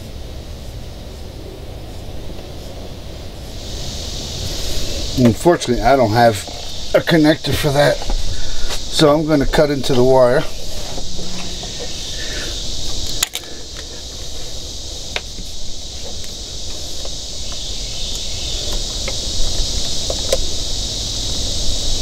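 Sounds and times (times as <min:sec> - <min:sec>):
insects droning: 0:00.0 - 0:22.0
low background rumble: 0:00.0 - 0:22.0.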